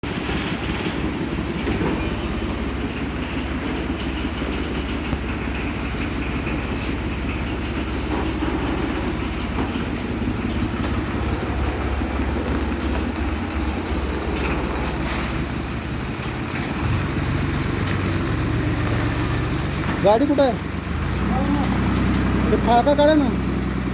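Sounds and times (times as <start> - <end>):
heavy machinery rumbling and rattling: 0.0 - 23.9.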